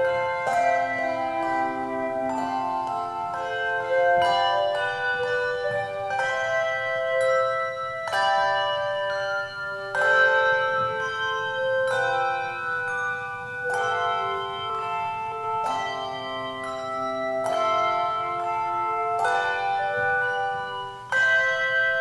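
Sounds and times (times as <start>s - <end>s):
handbells ringing chords: 0.0s - 22.0s.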